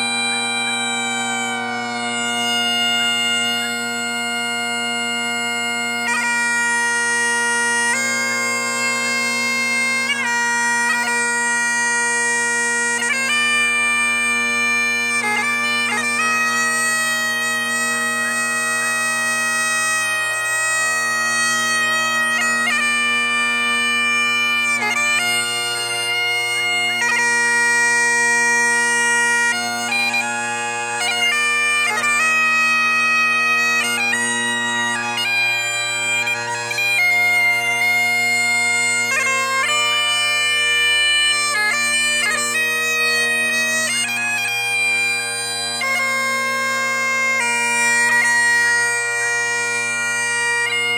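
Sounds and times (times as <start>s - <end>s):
bagpipes playing: 0.0s - 50.9s.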